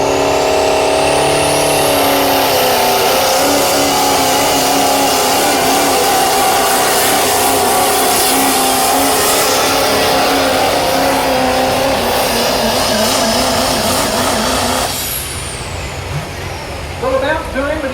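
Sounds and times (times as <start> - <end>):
tractor engine at full throttle: 0.0 - 17.9.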